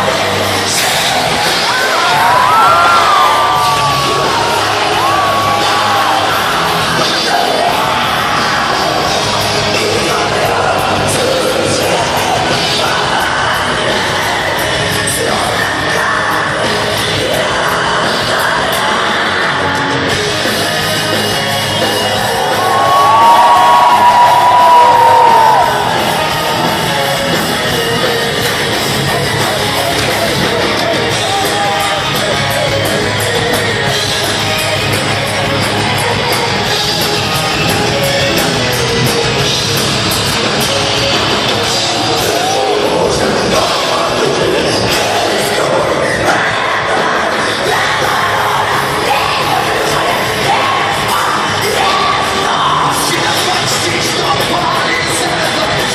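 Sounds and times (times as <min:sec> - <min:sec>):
distorted electric guitars: 0:00.0 - 0:55.9
metal band playing live: 0:00.0 - 0:55.9.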